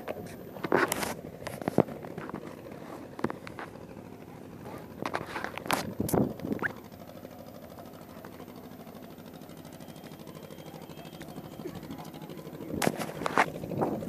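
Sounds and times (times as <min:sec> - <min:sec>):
engine running at low speed: 0:00.0 - 0:14.0.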